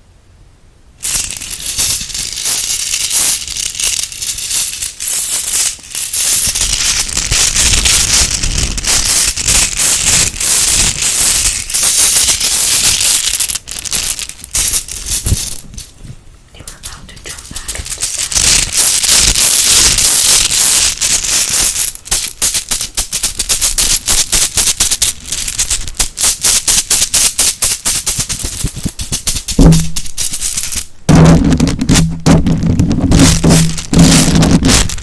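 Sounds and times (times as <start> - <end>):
toy bones rattling and clicking: 1.0 - 16.0, 16.6 - 30.9, 33.1 - 35.0.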